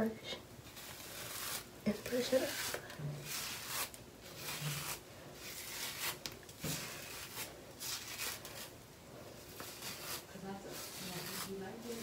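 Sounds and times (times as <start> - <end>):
hairbrush swishing through hair: 0.7 - 8.7, 9.4 - 12.0.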